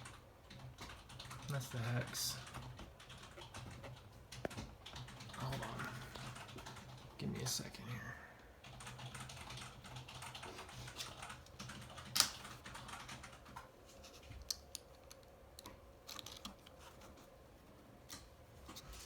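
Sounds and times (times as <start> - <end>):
laptop keyboard typing: 0.0 - 7.2, 8.6 - 16.9.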